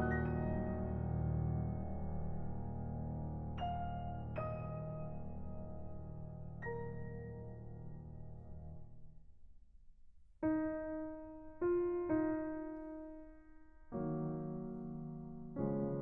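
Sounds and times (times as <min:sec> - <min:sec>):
slow piano notes: 0:00.0 - 0:09.0, 0:10.4 - 0:16.0.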